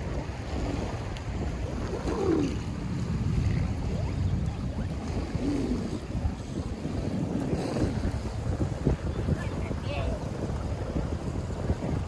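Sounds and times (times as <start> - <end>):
waves lapping on shore: 0.0 - 12.0
wind buffeting microphone: 0.0 - 12.0.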